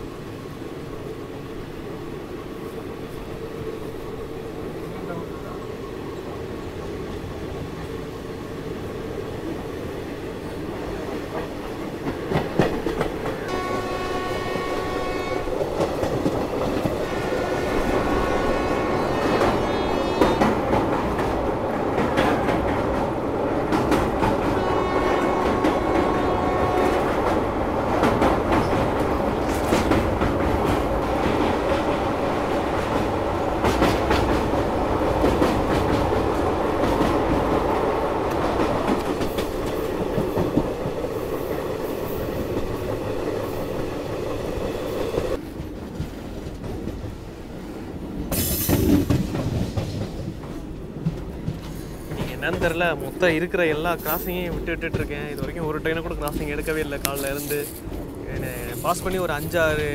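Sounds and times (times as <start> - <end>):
train rumbling: 0.0 - 59.9
wheels clicking over rail joints: 10.7 - 47.3, 48.2 - 59.9.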